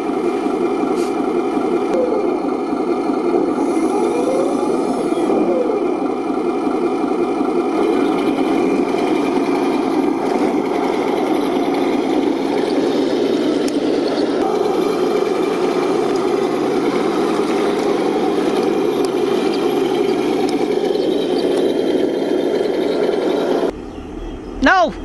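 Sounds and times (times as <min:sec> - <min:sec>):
toy tank engine drone: 0:00.0 - 0:23.7.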